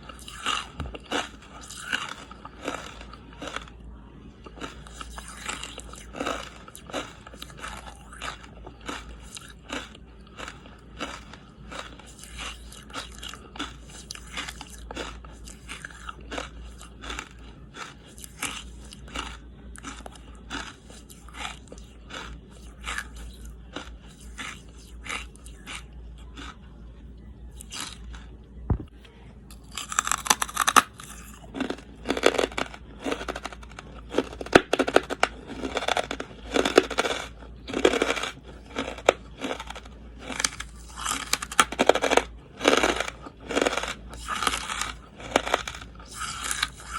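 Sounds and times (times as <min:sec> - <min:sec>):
chewing and crunching charcoal: 0:00.0 - 0:46.9.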